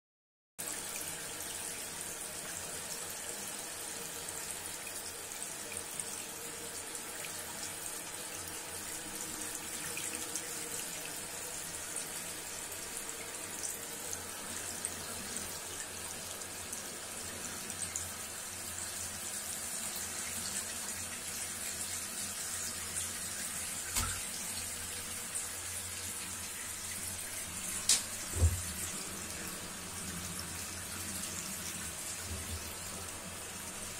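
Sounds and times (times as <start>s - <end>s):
water tap running: 0.6s - 33.9s.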